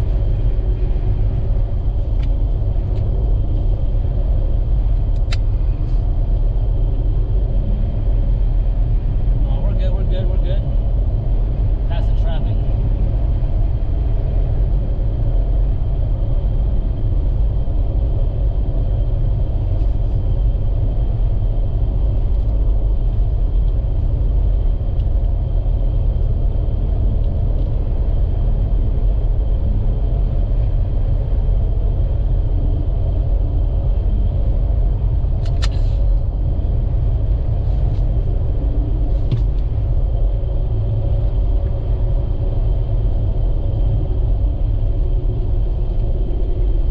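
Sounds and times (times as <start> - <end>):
vehicle rumbling on road: 0.0 - 46.9.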